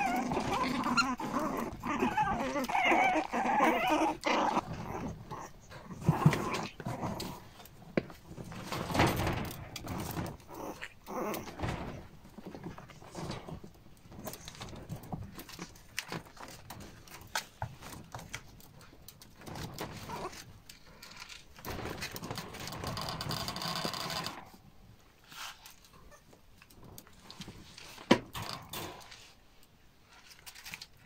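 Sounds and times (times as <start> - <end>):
puppies play-fighting: 0.0 - 27.8
rustling: 0.0 - 31.0.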